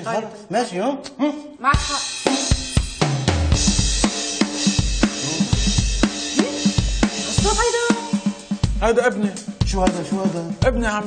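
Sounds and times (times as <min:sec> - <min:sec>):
drum kit playing a beat: 0:01.7 - 0:11.0
tom drum fill: 0:01.8 - 0:11.0.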